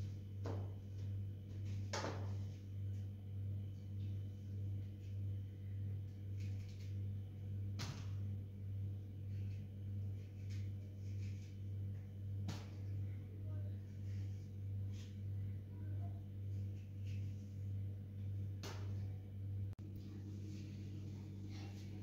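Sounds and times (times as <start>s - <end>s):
low wavering hum: 0.0s - 22.0s.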